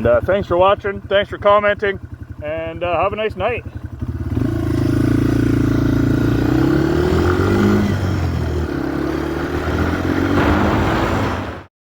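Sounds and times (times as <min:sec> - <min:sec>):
motorcycle engine running: 0:00.0 - 0:11.3.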